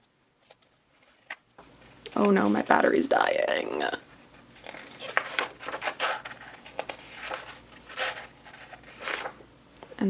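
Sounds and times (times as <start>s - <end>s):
paper and plastic rustling: 0.4s - 9.5s.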